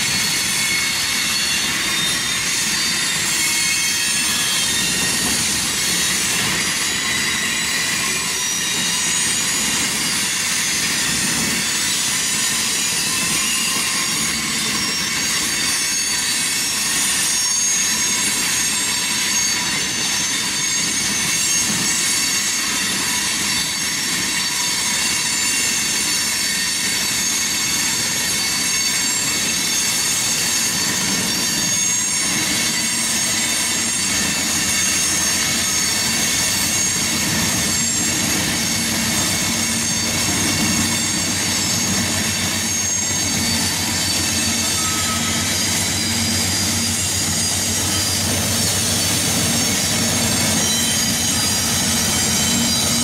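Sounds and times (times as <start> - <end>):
high-pitched wheel squeal: 0.0 - 53.0.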